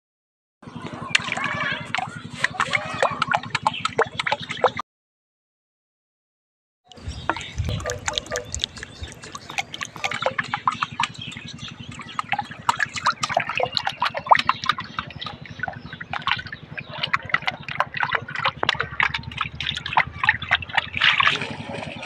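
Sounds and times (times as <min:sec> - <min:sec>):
shallow water splashing: 0:00.9 - 0:04.8, 0:06.9 - 0:22.0.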